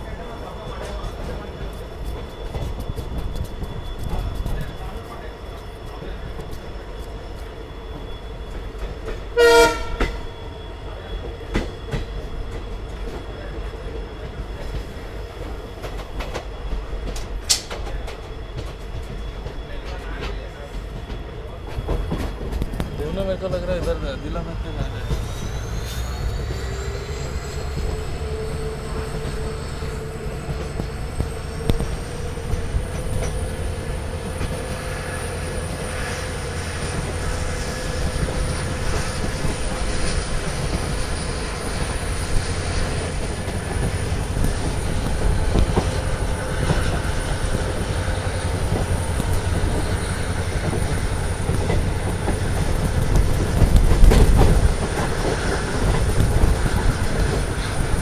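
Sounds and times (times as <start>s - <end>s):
rail clicks: 0.0s - 58.0s
train wheels rumbling on rail: 0.0s - 58.0s.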